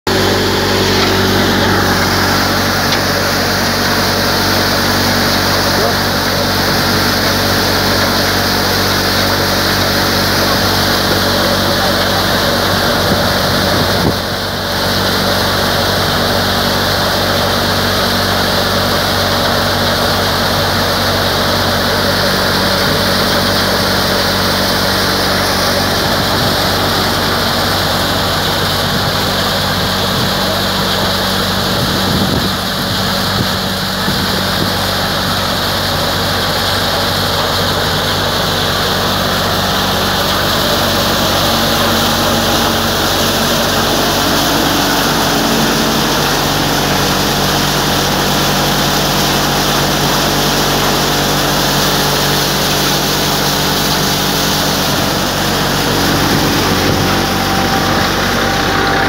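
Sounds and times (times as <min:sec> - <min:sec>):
constant hum: 0:00.1 - 0:59.0
thresher mechanical drone: 0:00.1 - 0:59.0.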